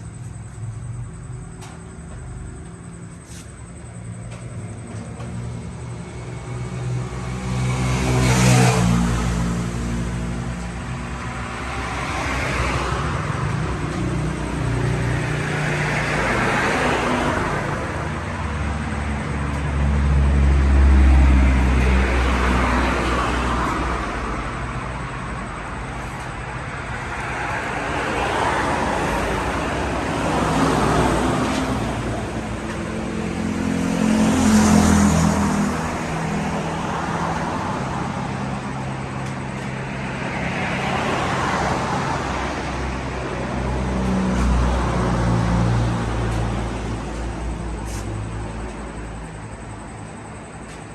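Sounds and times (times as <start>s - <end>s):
vehicles passing: 0.0s - 50.9s.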